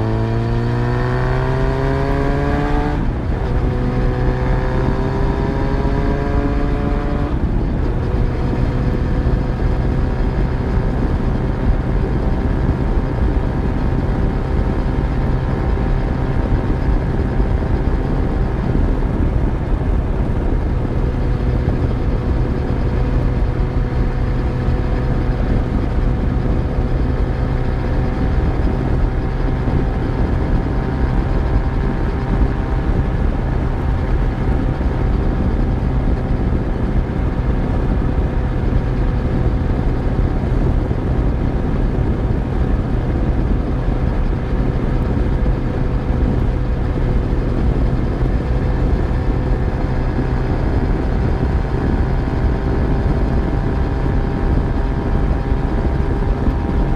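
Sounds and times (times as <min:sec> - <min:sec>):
motorcycle engine running steadily: 0:00.0 - 0:56.9
wind and road noise: 0:00.0 - 0:56.9.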